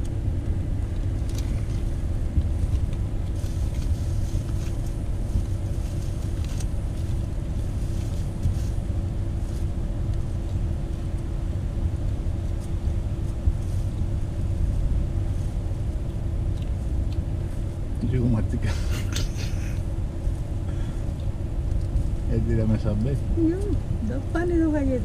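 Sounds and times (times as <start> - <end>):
faint steady hum: 0.0 - 25.0
vehicle rumble: 0.0 - 25.0.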